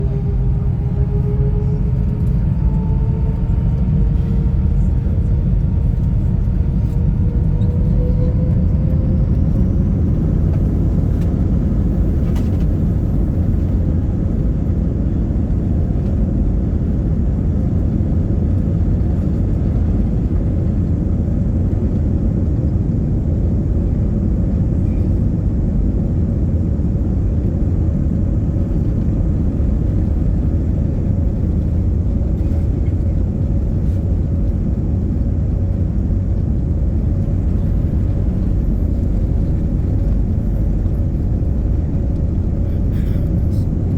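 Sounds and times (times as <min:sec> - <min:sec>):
jet engine whine: 0:00.0 - 0:43.9
jet engines rumbling: 0:00.0 - 0:43.9.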